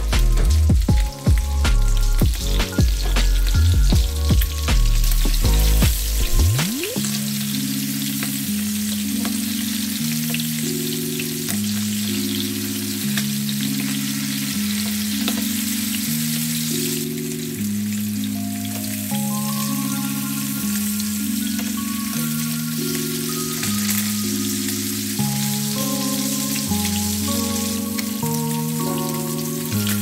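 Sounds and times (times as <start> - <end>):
background music of low chords: 0.0 - 30.0
fish sizzling in a pan: 0.0 - 30.0.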